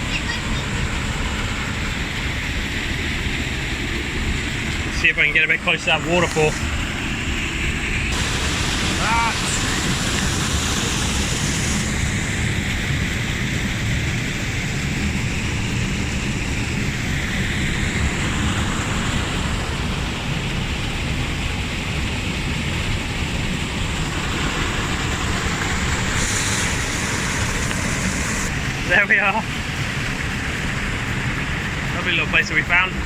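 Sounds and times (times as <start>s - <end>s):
small waterfall rushing: 0.0s - 33.0s.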